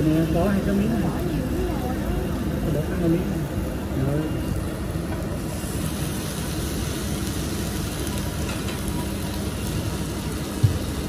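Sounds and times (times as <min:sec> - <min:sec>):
restaurant background rumble: 0:00.0 - 0:11.0.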